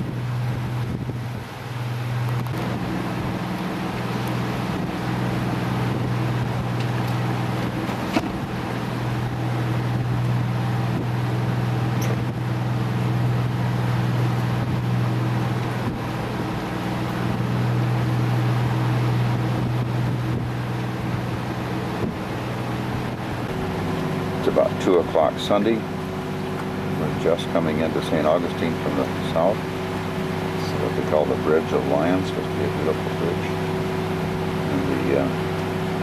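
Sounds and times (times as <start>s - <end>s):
boat engine drone: 0.0s - 36.0s.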